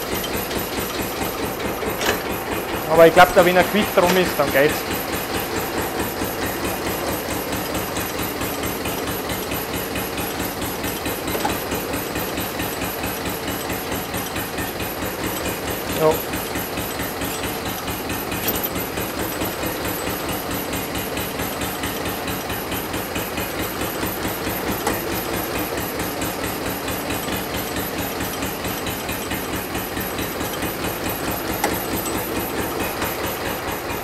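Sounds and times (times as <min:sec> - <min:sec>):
tractor diesel engine knocking: 0:00.0 - 0:34.0.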